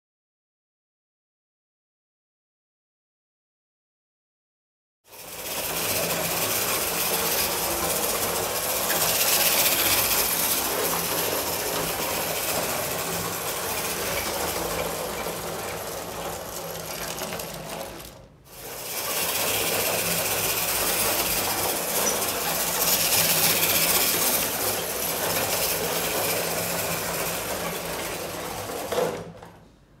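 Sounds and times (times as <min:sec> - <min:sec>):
clockwork motor whirring: 0:05.1 - 0:29.3.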